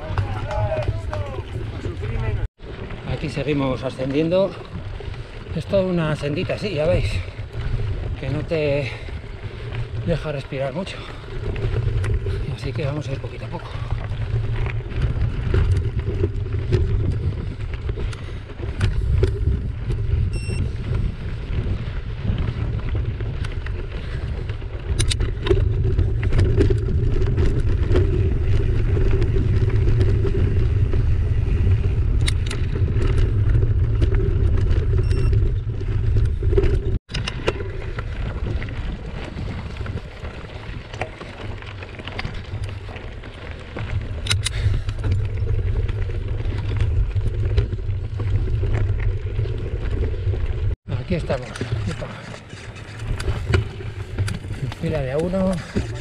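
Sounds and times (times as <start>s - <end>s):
tyres clicking on gravel: 0.0s - 56.0s
wind rumble on microphone: 0.0s - 56.0s.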